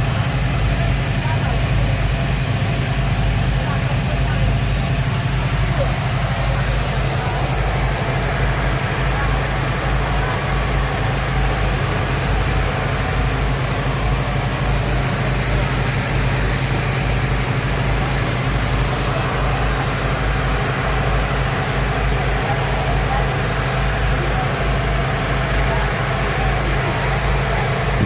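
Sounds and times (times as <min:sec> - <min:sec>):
speedboat engines droning: 0:00.0 - 0:28.0.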